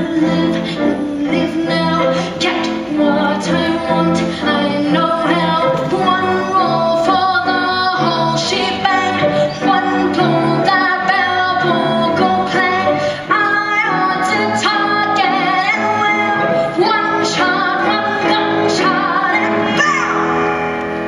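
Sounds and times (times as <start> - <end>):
boy singing: 0.0 - 20.4.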